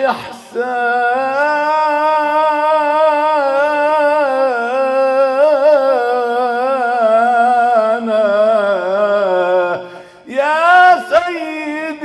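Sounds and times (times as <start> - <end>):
man singing long ornamented note: 0.0 - 12.0.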